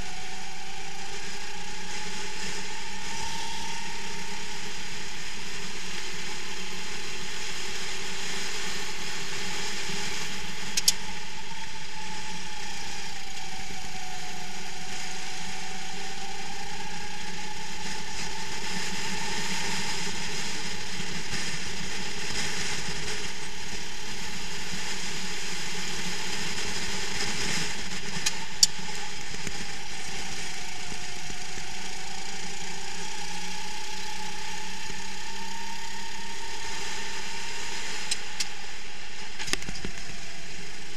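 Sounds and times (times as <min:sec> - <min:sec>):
go-kart engine buzzing: 0:00.0 - 0:40.9.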